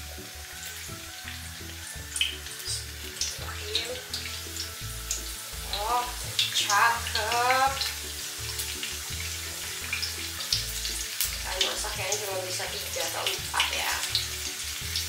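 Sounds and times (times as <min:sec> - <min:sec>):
food sizzling in hot oil: 0:00.0 - 0:15.0
oil crackling: 0:00.0 - 0:15.0.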